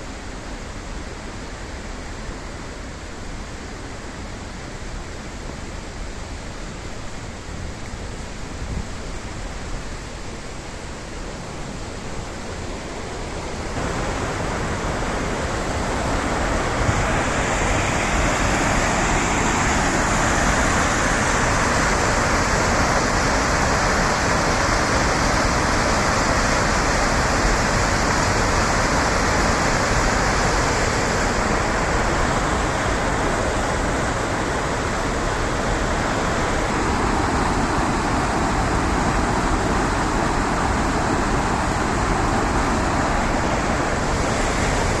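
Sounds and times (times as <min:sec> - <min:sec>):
river rushing: 0:00.0 - 0:45.0.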